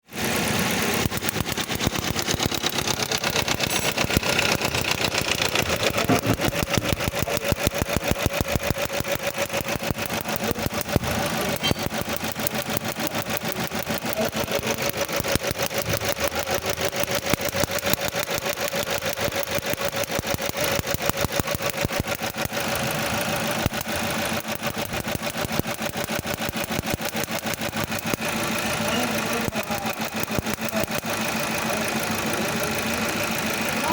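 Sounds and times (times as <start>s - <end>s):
car engine idling with misfire: 0.0s - 33.9s.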